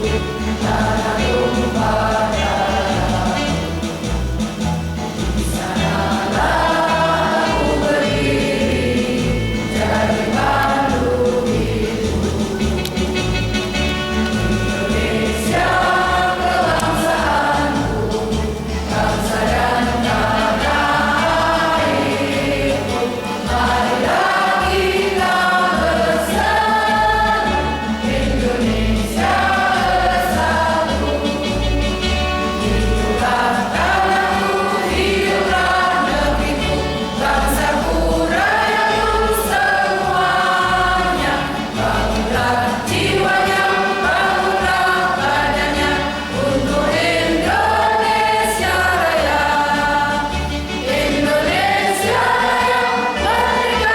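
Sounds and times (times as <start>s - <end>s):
mixed choir singing: 0.0s - 53.9s.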